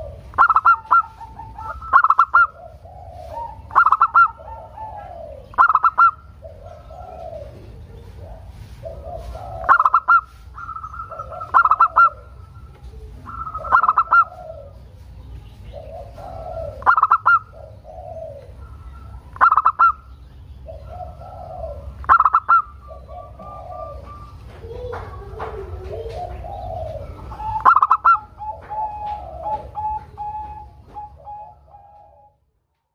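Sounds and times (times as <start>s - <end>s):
dove cooing: 0.0s - 32.4s.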